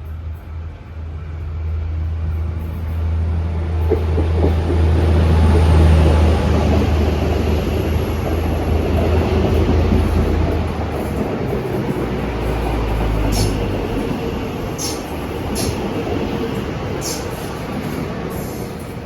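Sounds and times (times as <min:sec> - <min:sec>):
train running: 0:00.0 - 0:19.0.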